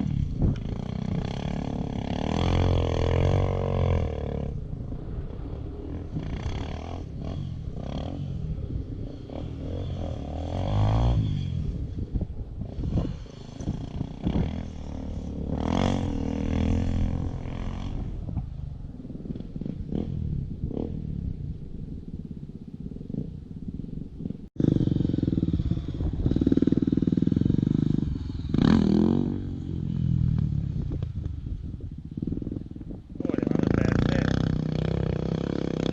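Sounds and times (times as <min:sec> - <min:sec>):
dirt bike engines revving: 0:00.0 - 0:35.9.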